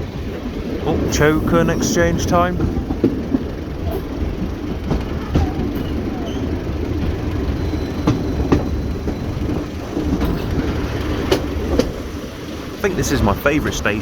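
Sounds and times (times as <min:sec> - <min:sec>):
train engine and wheels rumbling: 0:00.0 - 0:14.0
wheels clicking over rail joints: 0:00.0 - 0:14.0.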